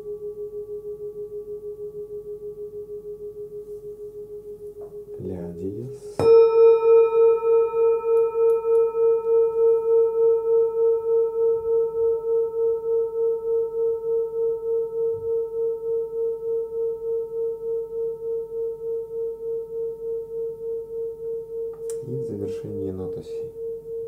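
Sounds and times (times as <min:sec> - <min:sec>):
singing bowl ringing: 0:00.0 - 0:24.0.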